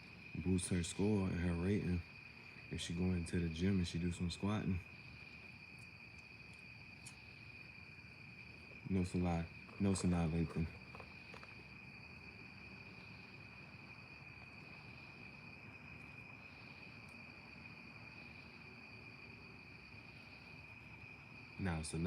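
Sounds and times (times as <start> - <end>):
crickets trilling: 0.0 - 22.0
low background hiss: 0.0 - 22.0.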